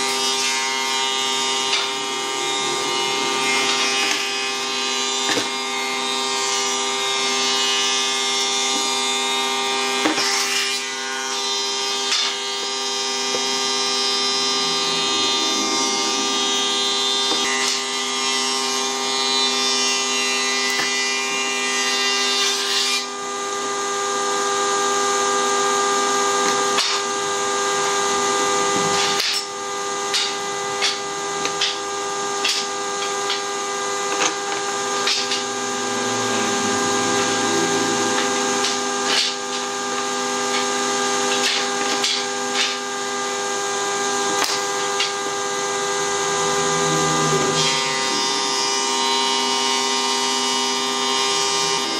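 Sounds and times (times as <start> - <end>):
motor humming with a whine: 0.0 - 51.9.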